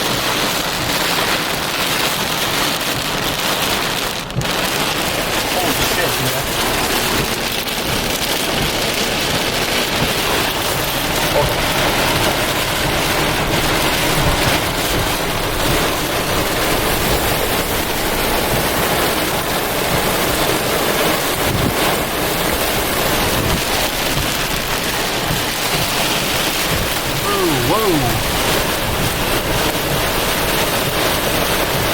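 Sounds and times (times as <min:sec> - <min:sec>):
heavy rain falling: 0:00.0 - 0:31.9
wind: 0:00.0 - 0:31.9.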